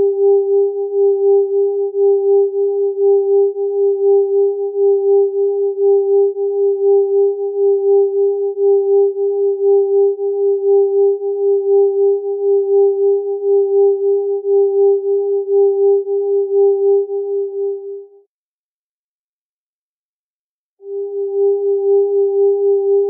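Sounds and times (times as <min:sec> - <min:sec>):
beating electronic sine tones: 0:00.0 - 0:18.1, 0:20.8 - 0:23.0.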